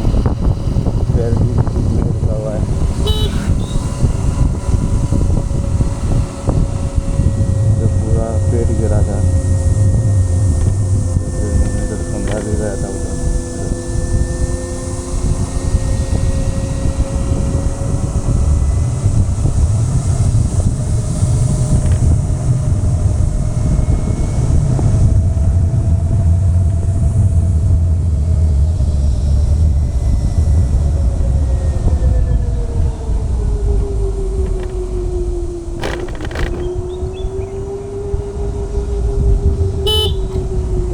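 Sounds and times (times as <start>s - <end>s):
vehicle engine cruising: 0.0s - 40.9s
wind rushing over microphone: 0.0s - 40.9s.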